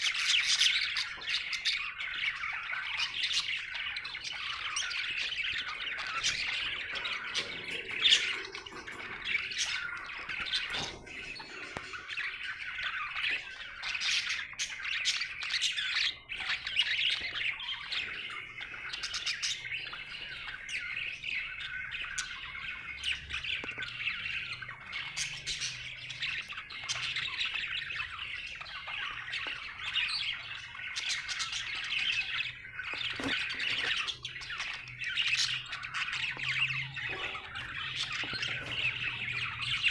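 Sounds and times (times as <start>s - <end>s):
budgie chirping and chattering: 0.0s - 39.9s.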